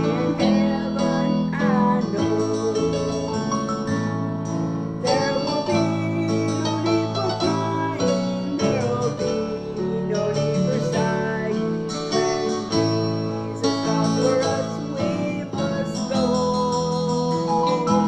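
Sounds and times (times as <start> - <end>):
song with guitar: 0.0 - 18.0.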